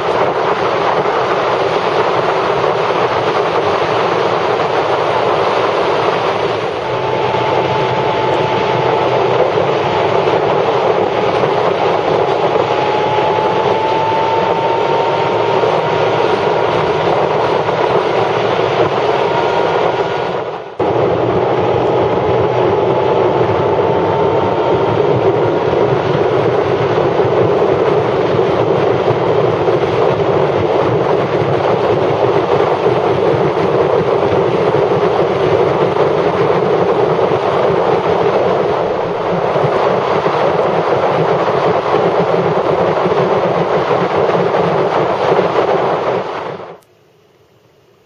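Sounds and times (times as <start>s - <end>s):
motorcycle road noise: 0.0s - 46.8s
wind rush: 0.0s - 46.8s.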